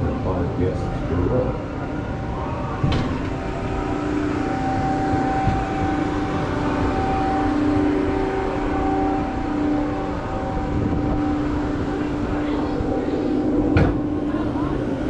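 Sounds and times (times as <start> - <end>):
ride machinery two-tone whine: 0.0 - 15.0
wind buffeting microphone: 0.9 - 15.0.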